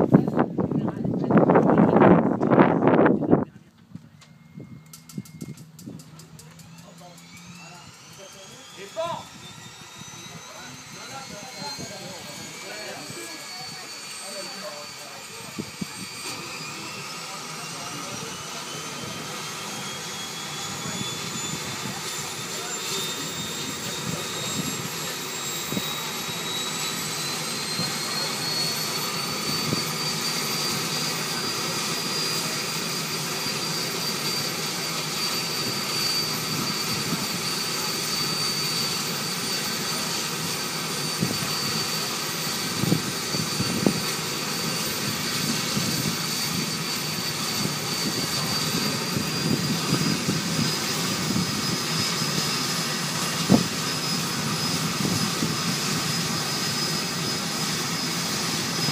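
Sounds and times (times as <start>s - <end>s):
turboprop engine whine: 0.0s - 58.9s.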